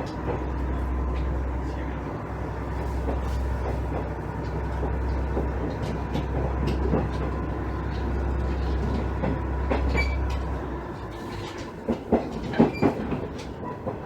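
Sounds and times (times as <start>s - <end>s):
diesel railcar engine drone: 0.0s - 14.0s
wheels clicking over rail joints: 2.7s - 14.0s.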